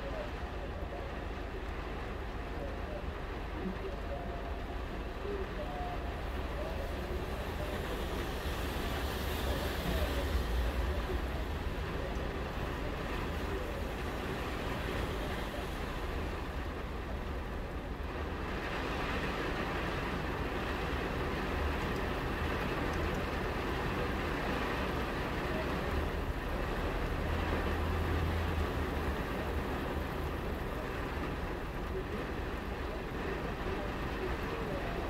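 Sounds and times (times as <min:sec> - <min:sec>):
heavy rain on glass: 0:00.0 - 0:35.0.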